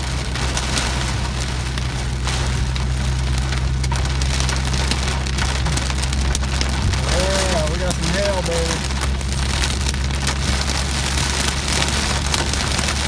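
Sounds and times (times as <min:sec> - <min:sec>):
car low hum: 0:00.0 - 0:13.0
heavy rain on car windshield: 0:00.0 - 0:13.0.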